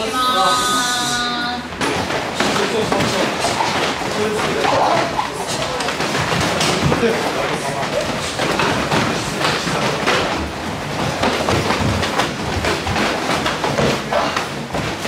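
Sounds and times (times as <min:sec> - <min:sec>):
bare feet stamping on mat: 0:01.8 - 0:15.0.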